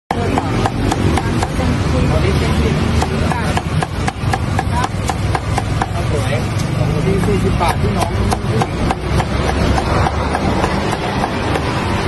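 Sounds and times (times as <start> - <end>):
cleaver chopping on wooden block: 0.1 - 1.7, 2.8 - 6.1, 7.2 - 12.0.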